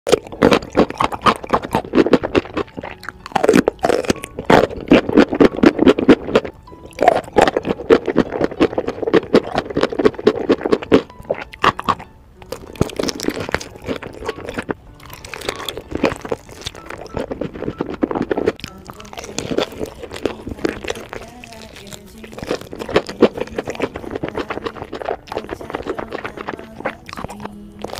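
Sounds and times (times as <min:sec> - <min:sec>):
crunchy food chewing: 0:00.1 - 0:27.9
wet mouth sounds: 0:00.1 - 0:27.9.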